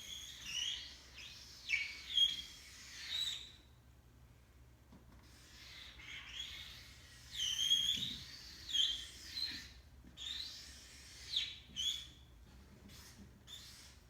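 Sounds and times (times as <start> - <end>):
marker squeaking on paper: 0.0 - 3.5, 5.2 - 14.0.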